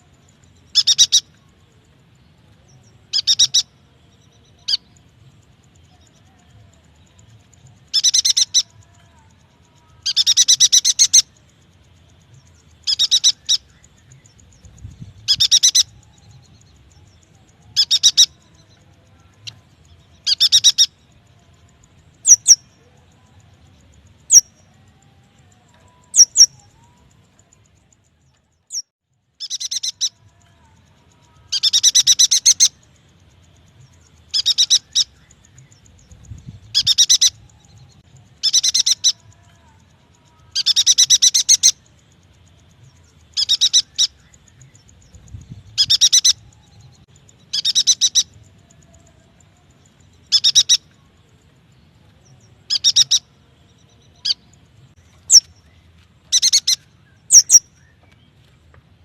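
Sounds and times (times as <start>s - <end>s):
bird chattering song: 0.0s - 1.4s, 2.7s - 21.1s, 21.9s - 58.4s.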